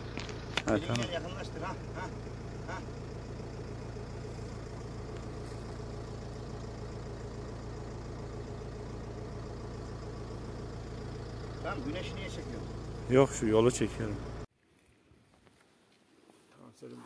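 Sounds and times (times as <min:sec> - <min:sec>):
low mechanical hum: 0:00.0 - 0:14.5.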